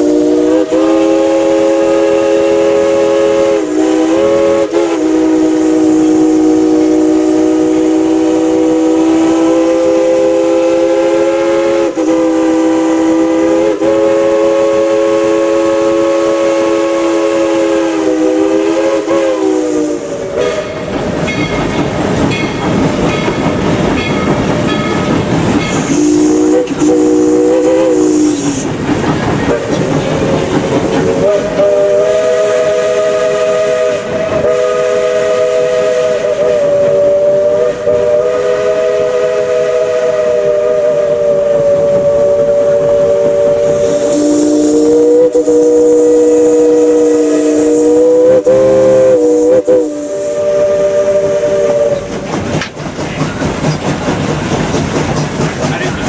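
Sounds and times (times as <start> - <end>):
steam locomotive whistle chord: 0.0 - 21.7, 24.0 - 28.7, 29.5 - 52.2
loud rushing steam: 0.0 - 56.0.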